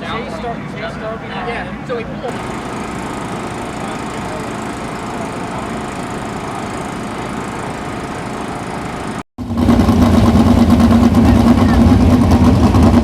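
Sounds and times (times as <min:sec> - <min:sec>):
race car engine droning: 0:01.7 - 0:13.0.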